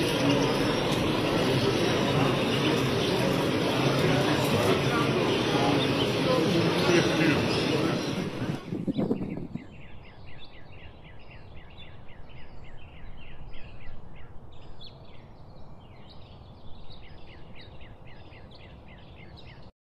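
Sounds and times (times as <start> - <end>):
small birds chirping rapidly: 0.0 - 19.7.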